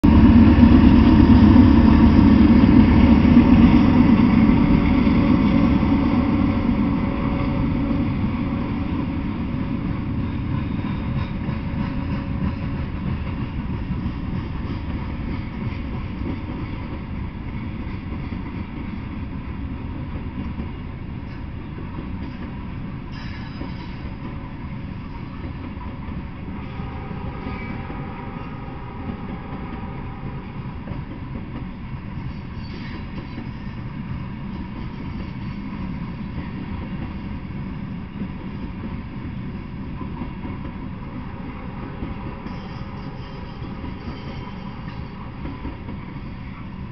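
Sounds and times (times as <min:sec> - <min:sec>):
diesel locomotive passing: 0:00.0 - 0:46.9.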